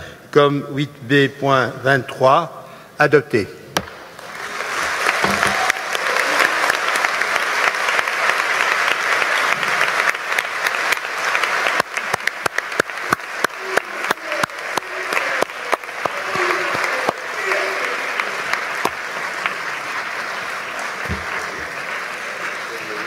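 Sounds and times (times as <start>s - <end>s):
crowd applauding: 4.1s - 23.0s.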